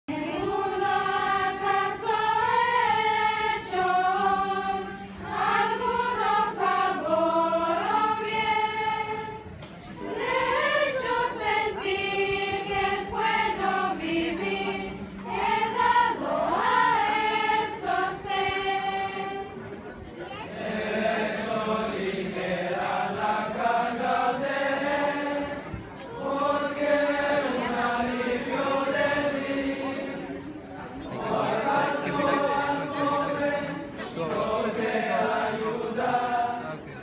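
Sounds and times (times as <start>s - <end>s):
church choir singing a hymn: 0.1s - 37.0s.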